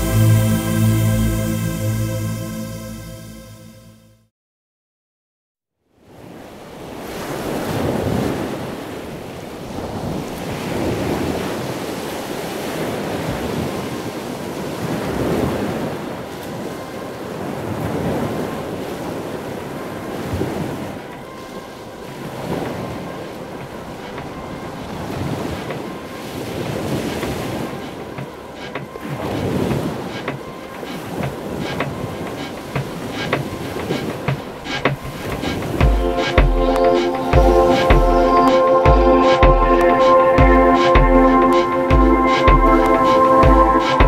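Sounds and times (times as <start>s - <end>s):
ocean waves breaking: 6.1s - 44.0s.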